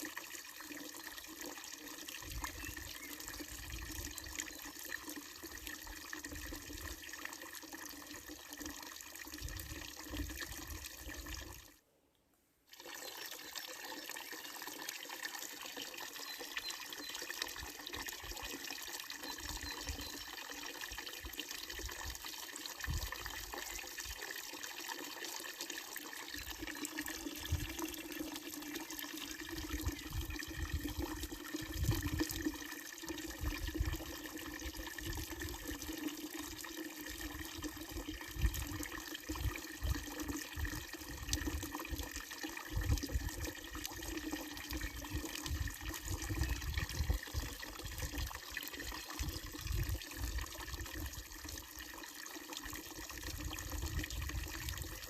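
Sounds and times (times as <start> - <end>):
water pouring from fountain spout: 0.0 - 11.8, 12.7 - 55.0.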